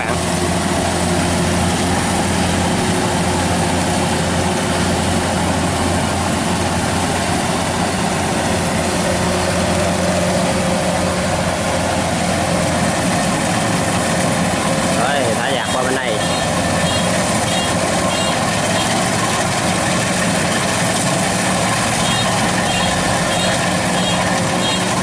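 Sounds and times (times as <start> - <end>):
combine harvester engine hum: 0.0 - 25.0
threshing machinery clatter: 0.0 - 25.0.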